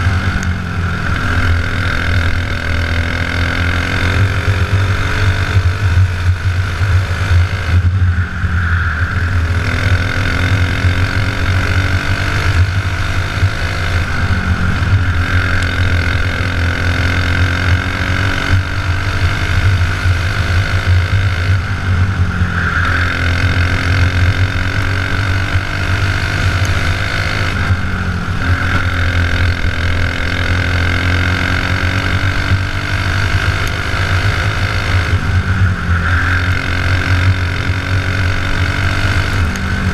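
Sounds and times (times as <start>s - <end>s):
racing kart engine revving: 0.0s - 39.9s.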